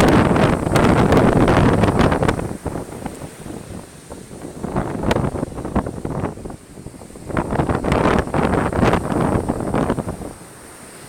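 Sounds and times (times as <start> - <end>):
wind buffeting microphone: 0.0 - 10.5
surf: 0.0 - 11.0.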